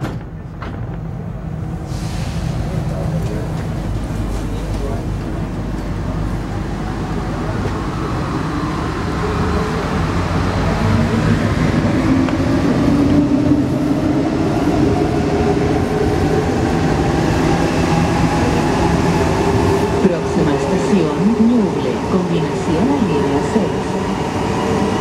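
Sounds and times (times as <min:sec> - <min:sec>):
wheels rumbling on rail: 0:00.0 - 0:25.0.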